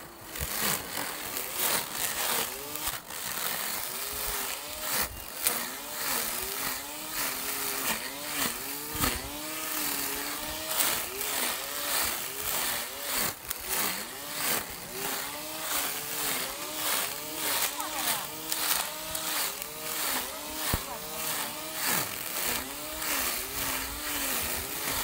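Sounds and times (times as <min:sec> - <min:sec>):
grass trimmer motor whine: 0:00.0 - 0:25.0.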